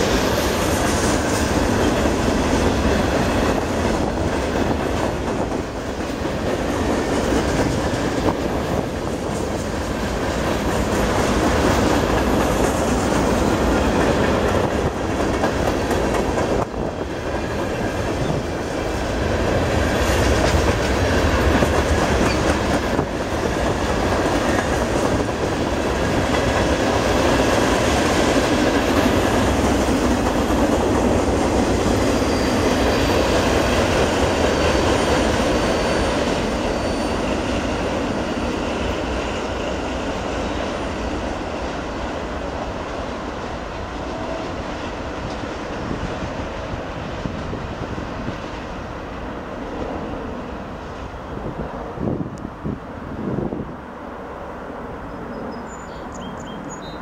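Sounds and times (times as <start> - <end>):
train wheels on rails: 0.0 - 57.0.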